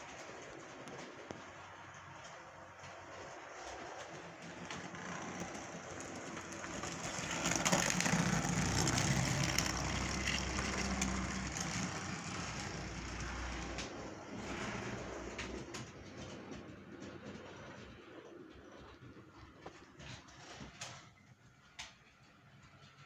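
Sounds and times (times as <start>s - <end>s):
model train rumbling clatter: 0.0s - 23.0s.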